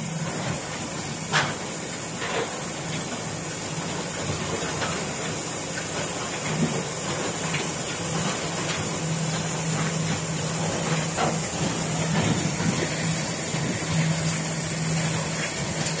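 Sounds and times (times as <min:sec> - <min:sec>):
plant machinery running: 0:00.0 - 0:16.0.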